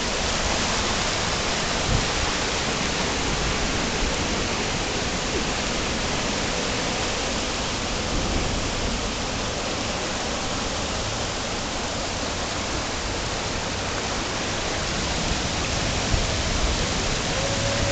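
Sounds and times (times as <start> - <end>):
floodwater rushing: 0.0 - 17.9.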